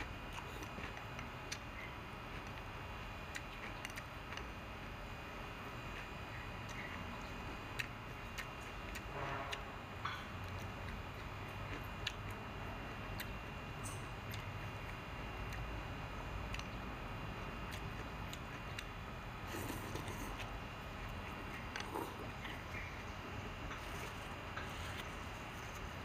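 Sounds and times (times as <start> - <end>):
room background: 0.0 - 26.0.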